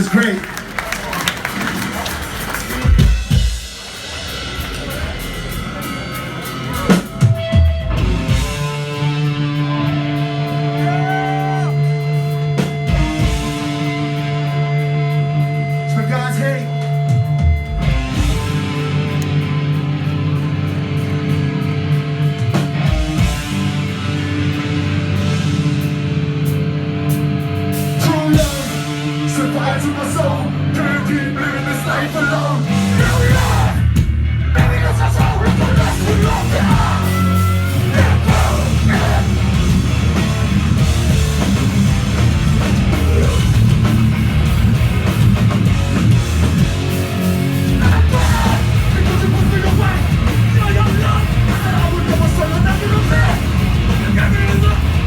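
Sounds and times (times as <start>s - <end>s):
bass line: 0.0s - 55.0s
punk band playing live: 0.0s - 55.0s
distorted electric guitar chords: 2.7s - 55.0s.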